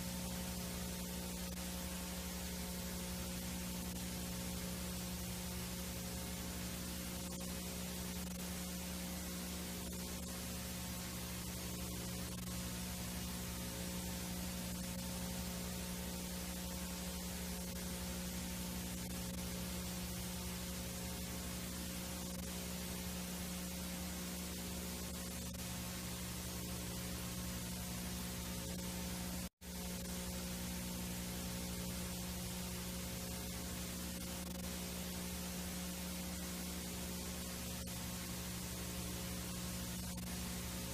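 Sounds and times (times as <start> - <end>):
low electrical hum: 0.0 - 40.9
tape hiss: 0.0 - 40.9.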